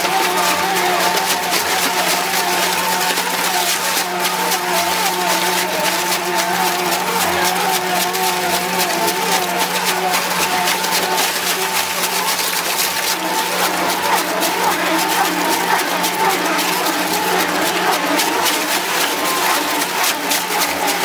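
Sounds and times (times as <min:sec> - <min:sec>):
rapid clicking and cracking: 0:00.0 - 0:21.0
shredder machine hum with whine: 0:00.0 - 0:21.0.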